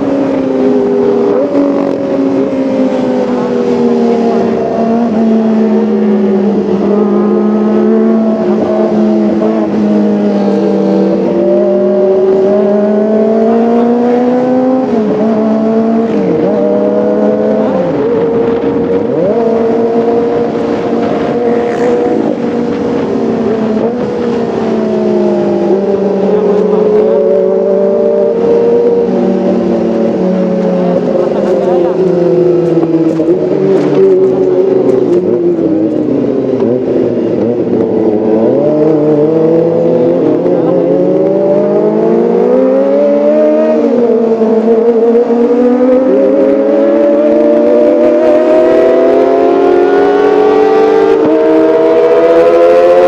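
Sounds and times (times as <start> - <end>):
motorcycle engine revving high: 0.0 - 53.0.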